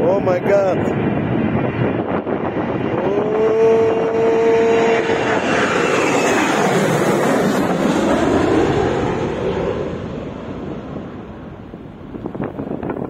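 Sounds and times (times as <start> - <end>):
airliner engines roaring: 0.0 - 13.0
steady engine whine: 0.0 - 13.0.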